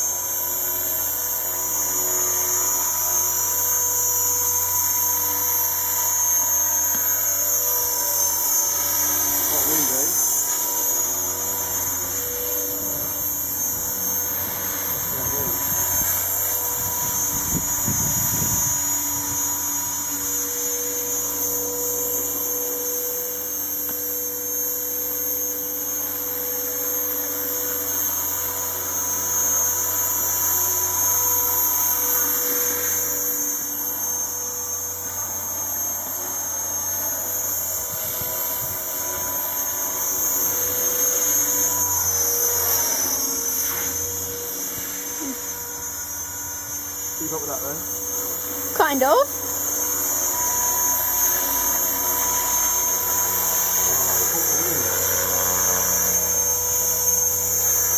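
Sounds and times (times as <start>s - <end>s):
rc helicopter rotor whine: 0.0s - 57.9s.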